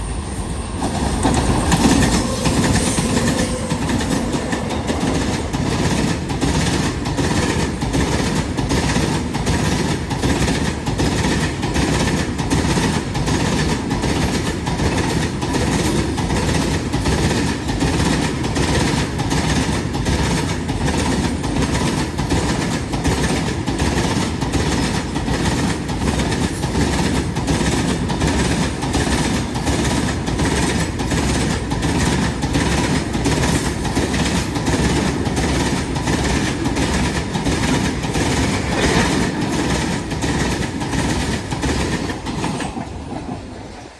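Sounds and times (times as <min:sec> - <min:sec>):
continuous train rumble: 0:00.0 - 0:43.9
wagon wheels clicking over rail joints: 0:04.3 - 0:43.4.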